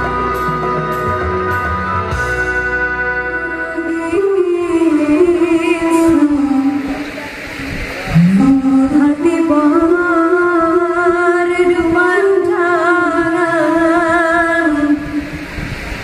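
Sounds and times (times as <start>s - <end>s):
singer holding notes with vibrato: 0.0s - 15.9s.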